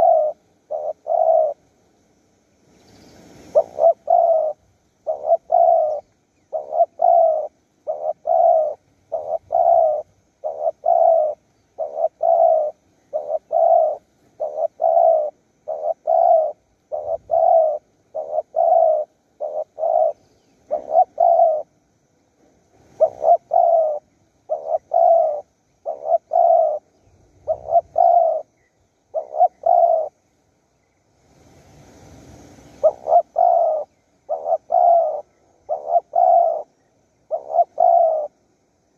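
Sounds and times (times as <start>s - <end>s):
dove cooing: 0.0s - 1.8s, 3.2s - 21.8s, 22.7s - 30.2s, 32.7s - 38.6s.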